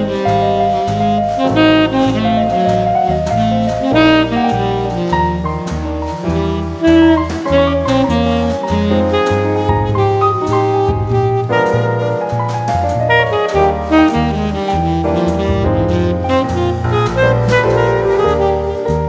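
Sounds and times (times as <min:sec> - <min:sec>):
bass line: 0:00.0 - 0:19.0
drums: 0:00.0 - 0:19.0
saxophone melody: 0:00.0 - 0:19.0.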